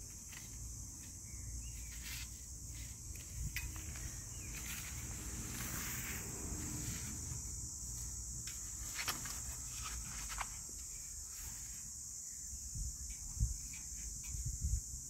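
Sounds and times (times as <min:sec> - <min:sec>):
high-pitched hiss: 0:00.0 - 0:15.0.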